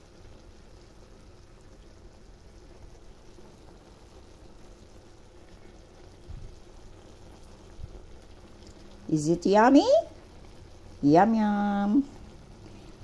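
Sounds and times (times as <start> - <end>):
pot bubbling: 0.0 - 13.0.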